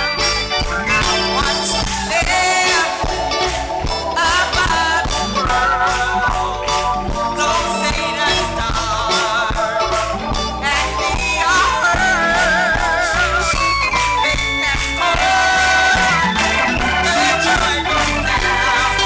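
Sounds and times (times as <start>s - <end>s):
gospel band drum beat: 0.0s - 19.0s
wavering singing: 0.7s - 19.0s.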